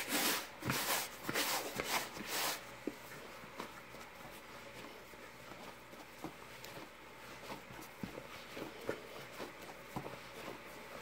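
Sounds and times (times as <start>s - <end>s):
hands kneading dough: 0.0s - 11.0s.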